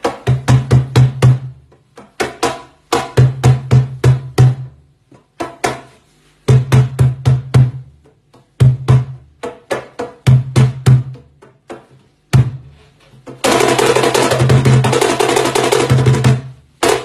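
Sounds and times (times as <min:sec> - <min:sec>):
hand drum strikes: 0:00.0 - 0:12.6, 0:13.2 - 0:17.0.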